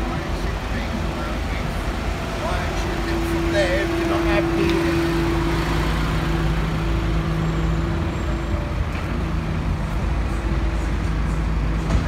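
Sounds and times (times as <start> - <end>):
bus engine hum: 0.0 - 12.0
street traffic: 0.0 - 12.0.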